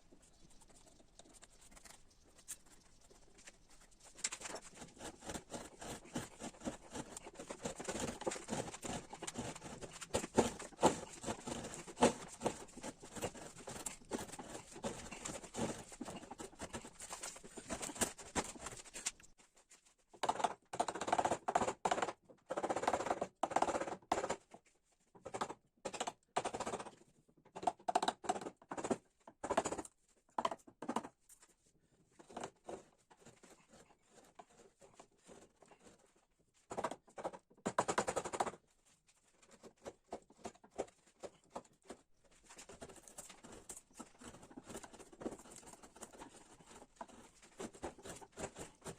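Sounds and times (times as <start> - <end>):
carving tools clicking and scraping: 0.0 - 19.4, 20.2 - 24.5, 25.2 - 31.4, 32.1 - 38.6, 39.4 - 48.9.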